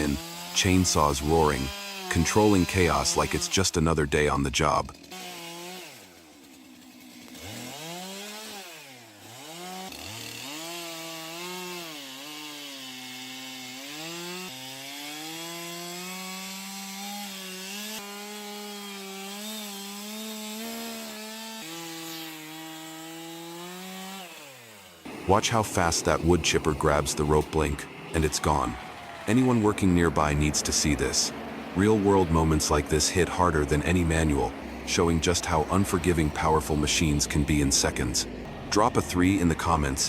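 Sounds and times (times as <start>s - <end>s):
chainsaw revving and cutting wood: 0.0s - 40.0s.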